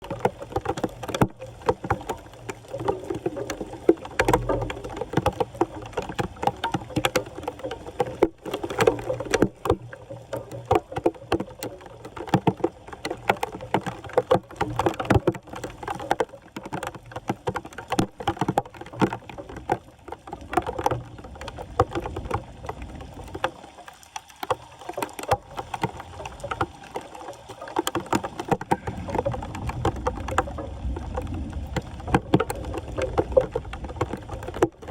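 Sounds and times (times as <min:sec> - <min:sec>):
floodwater splashing and sloshing: 0:00.0 - 0:34.9.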